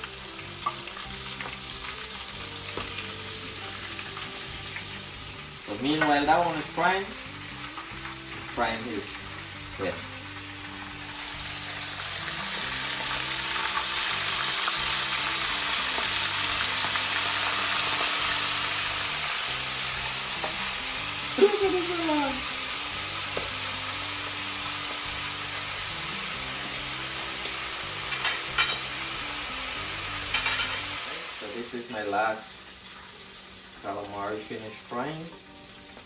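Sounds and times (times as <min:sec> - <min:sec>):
squid sizzling in hot oil: 0:00.0 - 0:36.0.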